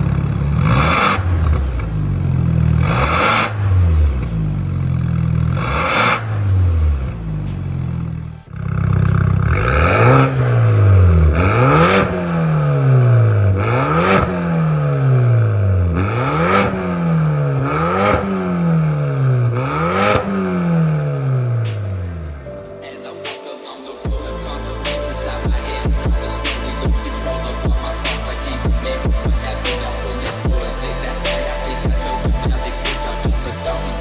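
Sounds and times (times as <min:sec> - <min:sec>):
car engine revving: 0:00.0 - 0:23.0, 0:24.1 - 0:34.0.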